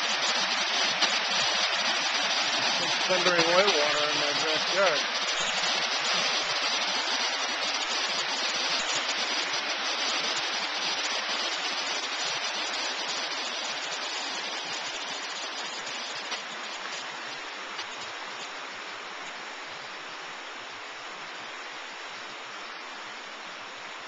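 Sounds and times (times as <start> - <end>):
white water rushing roar: 0.0 - 24.0.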